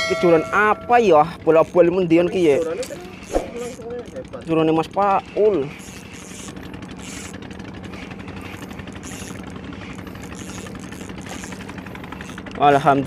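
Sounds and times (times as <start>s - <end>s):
steady low hum: 0.0s - 12.6s
fishing reel whirring and ticking: 0.0s - 13.0s.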